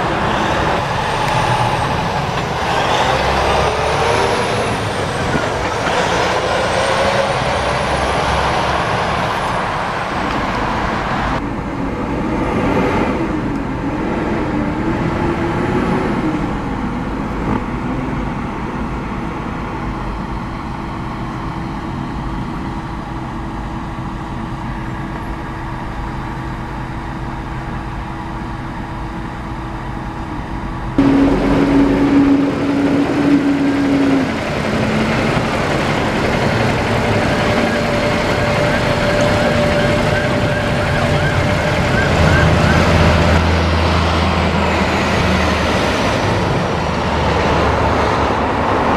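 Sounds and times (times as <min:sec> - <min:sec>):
truck engine revving: 0:00.0 - 0:21.6, 0:30.5 - 0:48.9
truck engine and tyre noise: 0:00.0 - 0:48.9.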